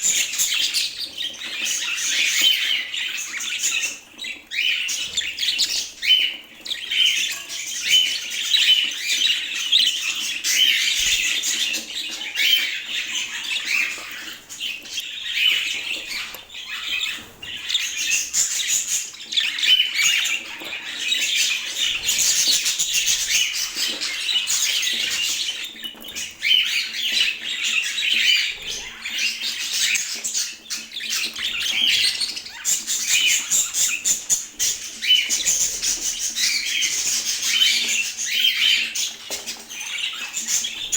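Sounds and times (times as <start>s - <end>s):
budgerigar warbling and chirping: 0.0s - 39.2s.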